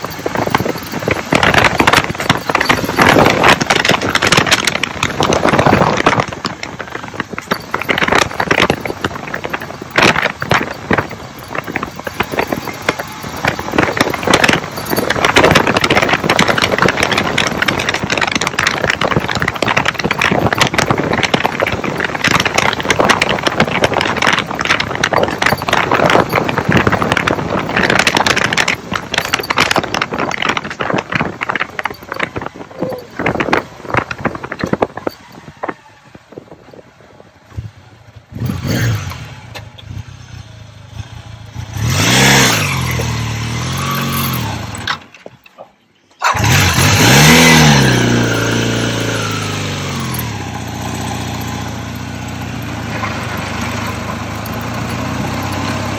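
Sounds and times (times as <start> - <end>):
motorcycle engine running and revving: 0.0 - 45.2, 46.2 - 55.9.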